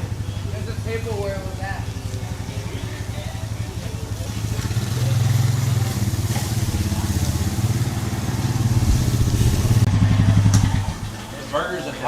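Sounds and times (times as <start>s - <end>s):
small engine running: 0.0s - 11.5s.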